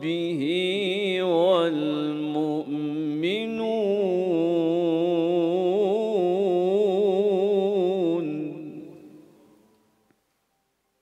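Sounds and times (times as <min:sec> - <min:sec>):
man reciting melodically: 0:00.0 - 0:09.3.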